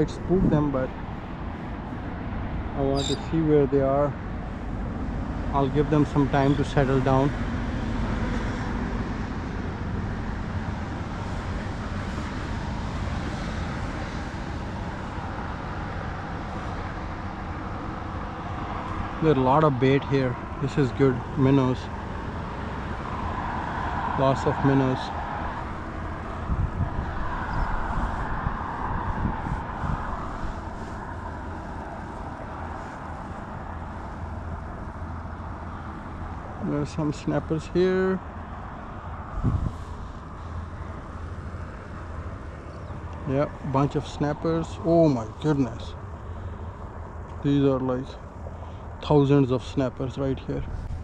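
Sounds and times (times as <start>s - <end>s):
wind buffeting microphone: 0.0s - 49.1s, 50.4s - 51.0s.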